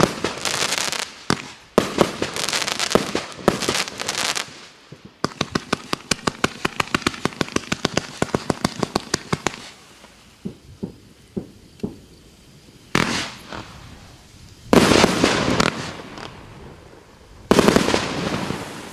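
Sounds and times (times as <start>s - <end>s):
crackling firework bursts: 0.0s - 18.9s
dull fireworks pops: 0.0s - 18.9s
fireworks shots volley: 0.0s - 18.9s.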